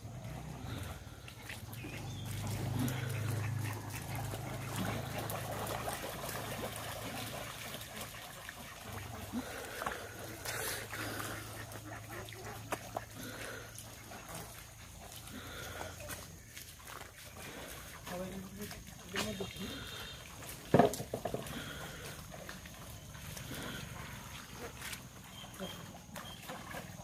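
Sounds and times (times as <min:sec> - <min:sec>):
ducks dabbling in water: 0:00.0 - 0:27.0
ducks quacking: 0:00.1 - 0:22.3, 0:23.2 - 0:26.0.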